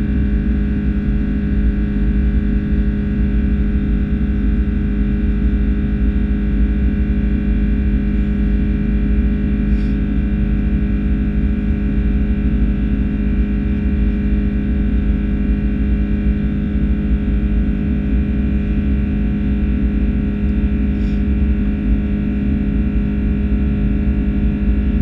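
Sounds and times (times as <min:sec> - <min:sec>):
jet engines droning in cabin: 0:00.0 - 0:25.0.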